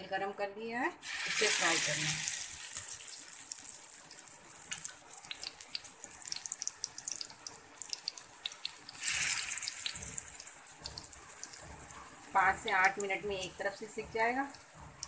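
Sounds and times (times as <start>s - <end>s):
battered food sizzling in oil: 1.0s - 15.0s.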